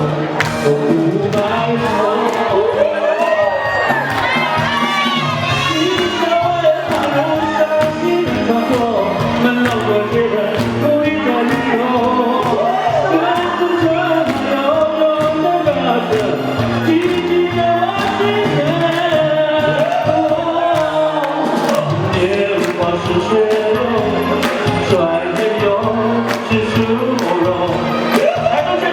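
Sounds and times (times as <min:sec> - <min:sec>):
man singing into a microphone: 0:00.0 - 0:04.1, 0:05.1 - 0:28.9
backing track with steady beat: 0:00.0 - 0:28.9.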